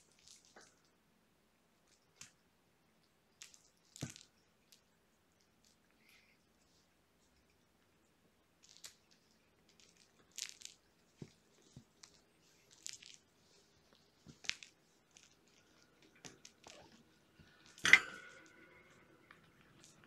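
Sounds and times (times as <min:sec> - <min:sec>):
faint rustles and soft clicks: 0:00.0 - 0:20.0.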